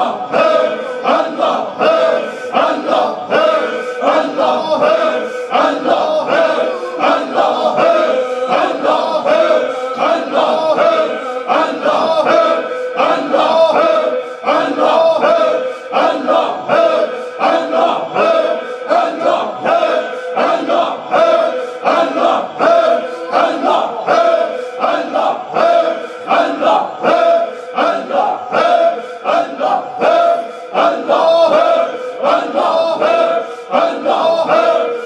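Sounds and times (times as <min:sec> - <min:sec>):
men chanting in unison: 0:00.0 - 0:35.0.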